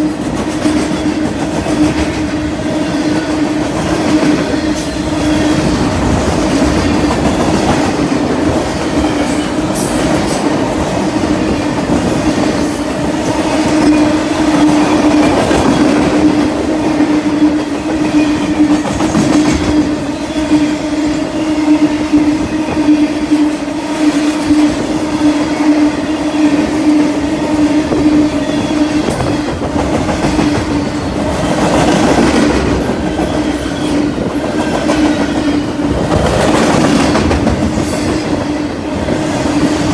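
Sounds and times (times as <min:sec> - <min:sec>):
train wheels clicking on rails: 0:00.0 - 0:39.9.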